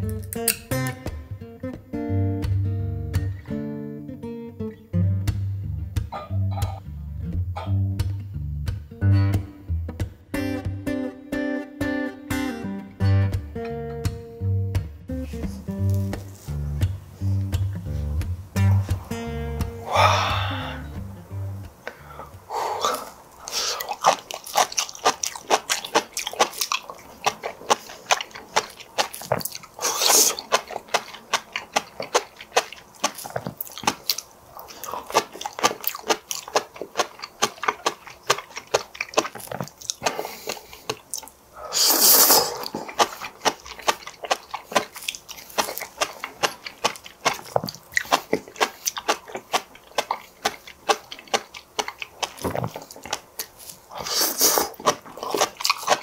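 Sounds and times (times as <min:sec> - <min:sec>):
chewing with crisp pops: 0:00.0 - 0:01.8, 0:05.3 - 0:08.7, 0:14.8 - 0:56.0.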